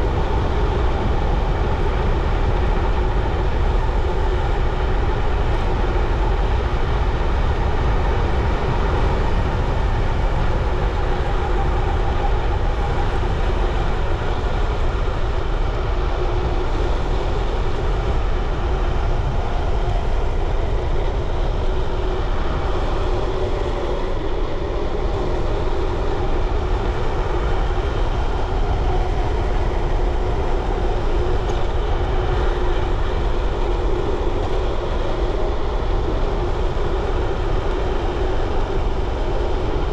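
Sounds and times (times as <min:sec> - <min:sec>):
bicycle tyres rolling on road: 0:00.0 - 0:39.9
wind buffeting microphone: 0:00.0 - 0:39.9.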